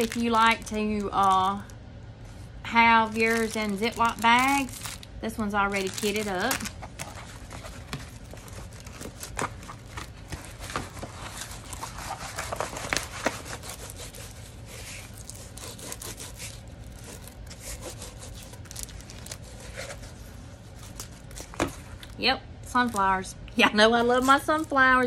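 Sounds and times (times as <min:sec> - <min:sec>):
canvas and paper crinkling: 0:00.0 - 0:01.7, 0:02.7 - 0:25.0.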